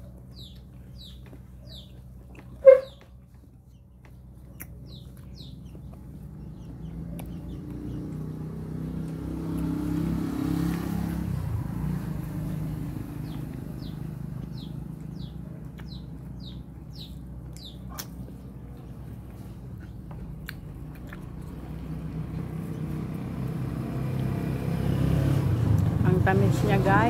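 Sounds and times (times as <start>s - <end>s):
vehicle engine passing by: 5.0s - 27.0s.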